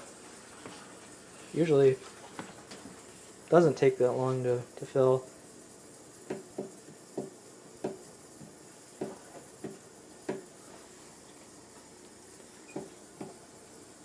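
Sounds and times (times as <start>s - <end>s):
dishwasher filling with water: 0.0s - 14.0s.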